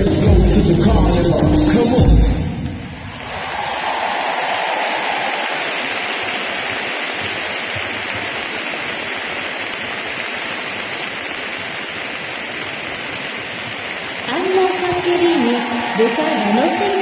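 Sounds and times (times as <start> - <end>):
crowd applauding: 2.9 - 17.0.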